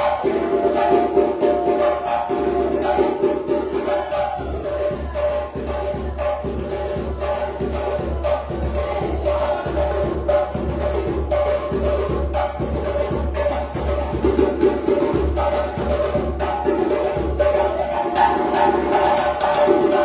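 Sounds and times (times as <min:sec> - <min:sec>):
djembe drumming: 0:00.0 - 0:20.0.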